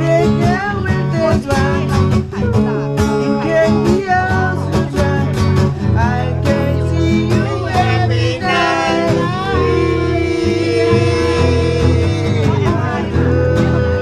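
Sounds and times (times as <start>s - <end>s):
acoustic guitar strummed and picked: 0.0s - 14.0s
person singing: 0.0s - 14.0s.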